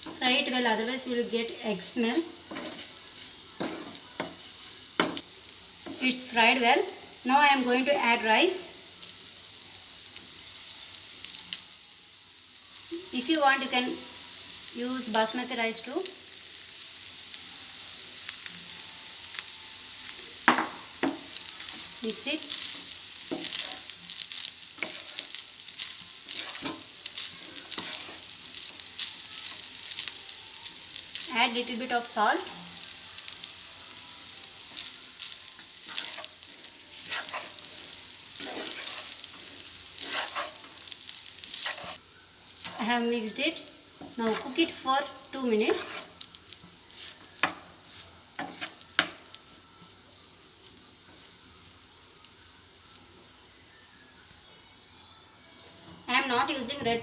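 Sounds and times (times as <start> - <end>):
egg sizzling in oil: 0.0 - 54.5.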